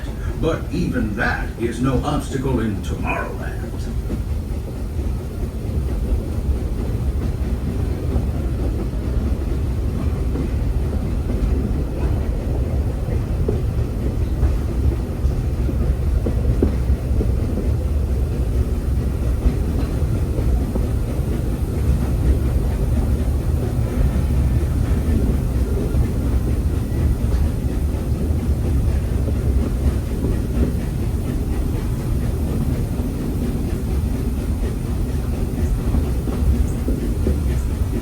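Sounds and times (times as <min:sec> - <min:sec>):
train rumbling along track: 0:00.0 - 0:38.0
wheels clicking on rails: 0:00.0 - 0:38.0.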